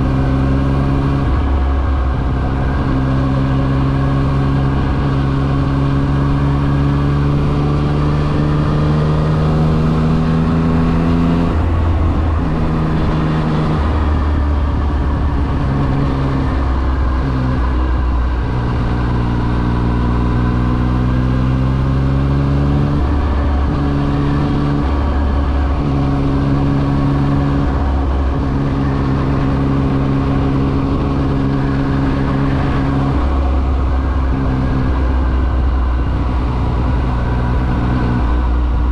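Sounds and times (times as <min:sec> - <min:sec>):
low wind rumble: 0:00.0 - 0:38.9
motorcycle engine revving: 0:00.0 - 0:38.9.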